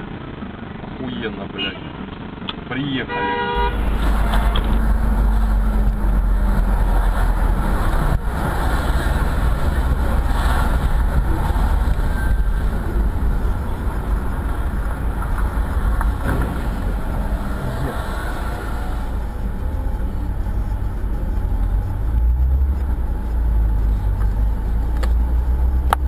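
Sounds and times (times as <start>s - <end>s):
car engine rumble: 0.0s - 26.0s
tyres on wet road: 0.0s - 26.0s.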